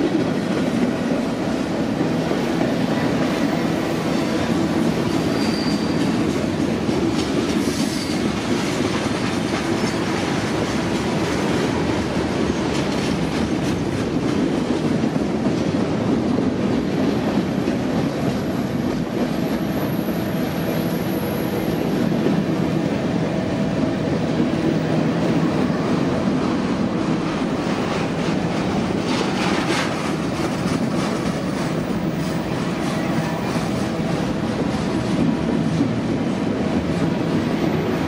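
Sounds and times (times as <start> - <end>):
steel wheels rumbling on rails: 0.0 - 38.0.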